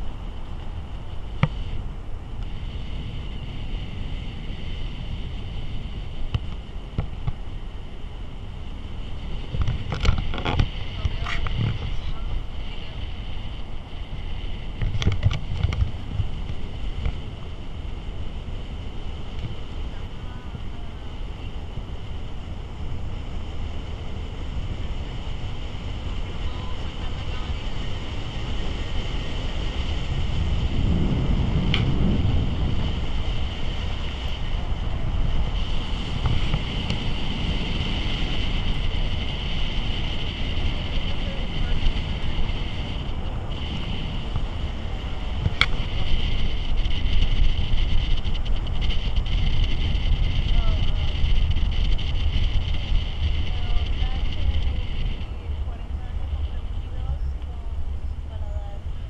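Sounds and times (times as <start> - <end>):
car road and tyre noise: 0.0 - 59.0
steady high-pitched hiss: 0.0 - 59.0
wind rushing over microphone: 0.0 - 59.0.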